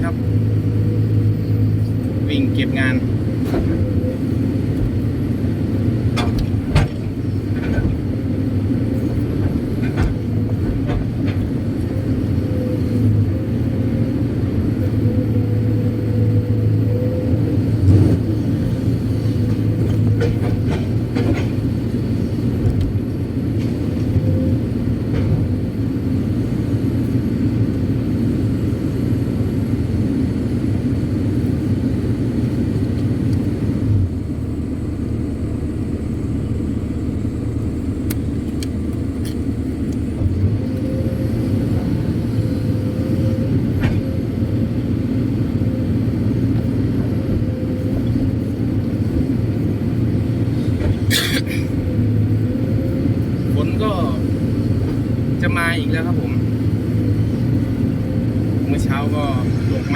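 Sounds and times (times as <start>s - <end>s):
excavator engine droning: 0.0s - 59.9s.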